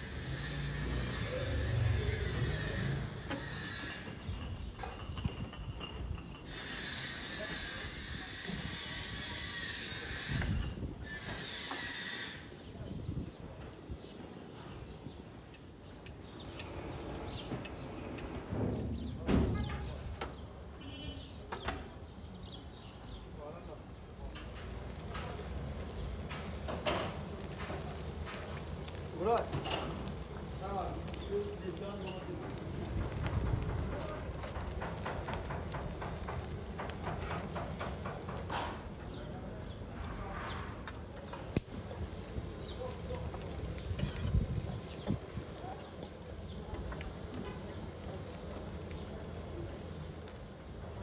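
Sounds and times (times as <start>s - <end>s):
gas hissing from burners: 0.0s - 51.0s.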